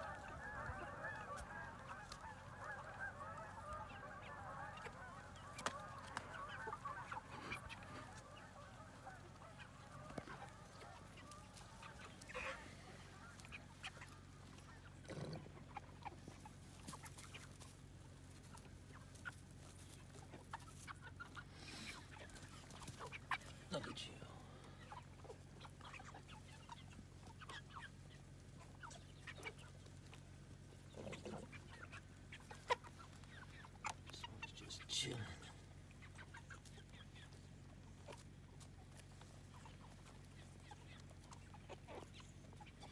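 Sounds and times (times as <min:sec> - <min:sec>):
chickens clucking and peeping: 0:00.0 - 0:42.9
low steady background hum: 0:00.0 - 0:42.9.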